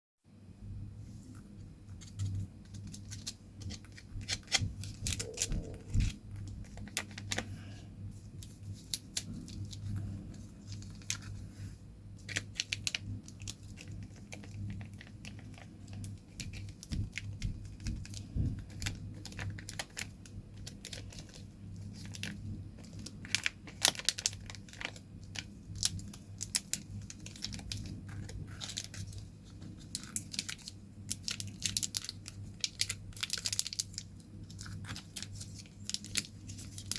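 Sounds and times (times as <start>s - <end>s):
low steady hum: 0.3s - 36.9s
sweet wrappers crinkling: 1.9s - 36.9s.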